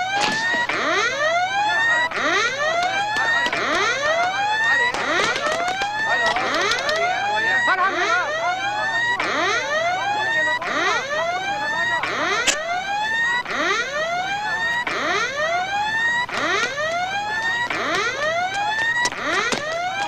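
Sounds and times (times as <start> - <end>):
whooping alarm siren: 0.0 - 20.0.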